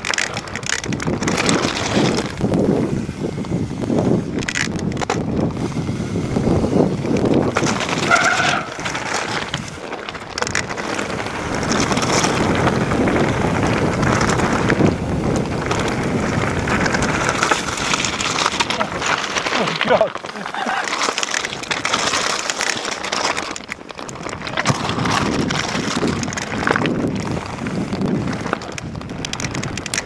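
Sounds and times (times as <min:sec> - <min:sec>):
bike tyres crunching on stones: 0:00.0 - 0:30.0
wind buffeting microphone: 0:00.0 - 0:30.0.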